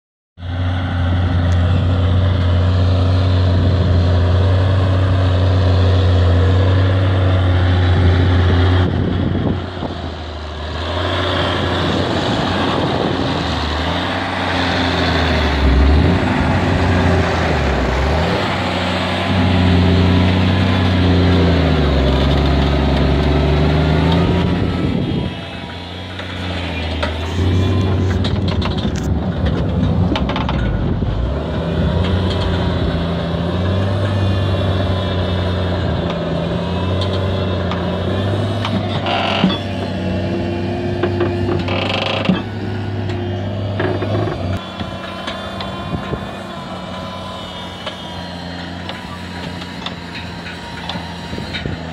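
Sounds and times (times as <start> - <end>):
tractor diesel engine under load: 0.4 - 51.9.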